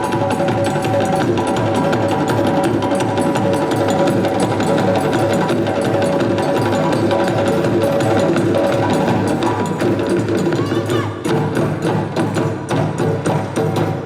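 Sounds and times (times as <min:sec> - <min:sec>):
drum ensemble playing fast rhythm: 0:00.0 - 0:14.0.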